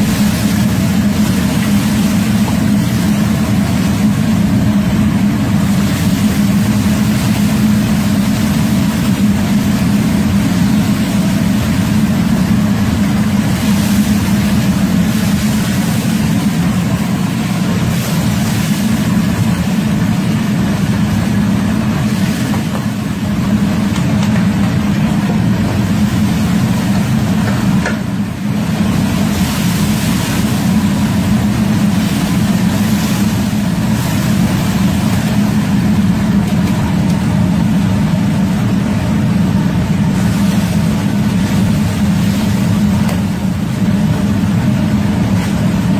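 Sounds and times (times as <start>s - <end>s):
kitchen wok burner roar: 0.0s - 45.9s.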